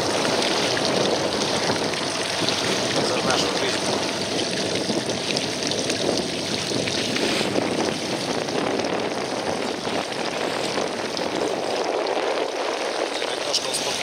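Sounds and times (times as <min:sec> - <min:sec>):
outboard motor running: 0:00.0 - 0:14.0
water rushing: 0:00.0 - 0:14.0
wind: 0:00.0 - 0:14.0.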